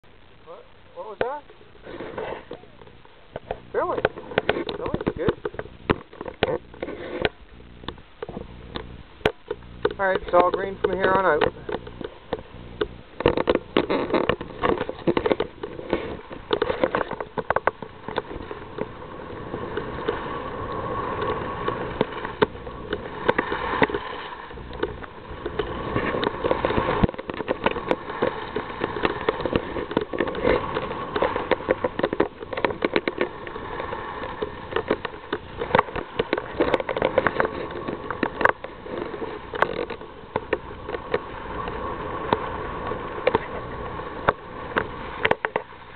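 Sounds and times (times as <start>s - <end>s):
skis scraping over snow: 0.4s - 45.9s.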